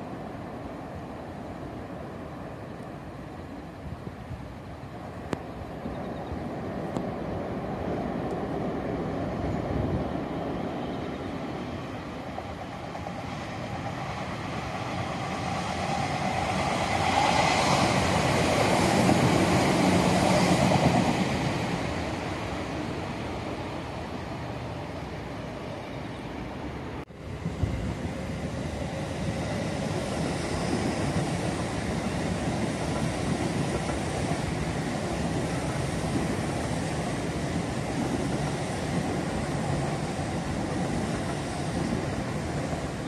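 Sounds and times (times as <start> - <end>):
electric train passing: 0.0 - 43.0.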